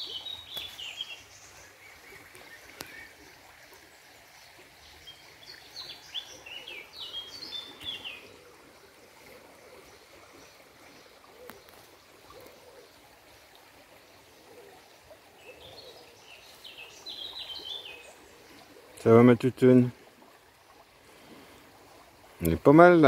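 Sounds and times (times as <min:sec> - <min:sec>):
faint outdoor background hiss: 0:00.0 - 0:23.0
songbird chirping: 0:00.0 - 0:23.0.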